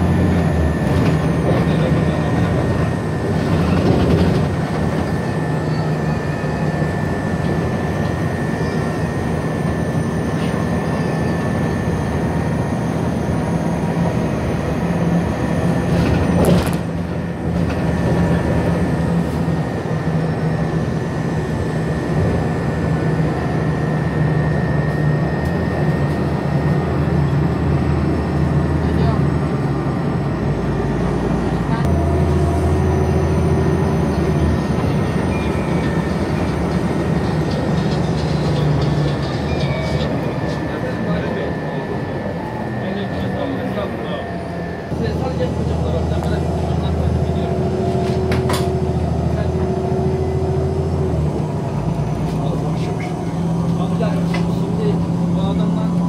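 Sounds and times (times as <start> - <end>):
vehicle engine drone: 0.0 - 56.0.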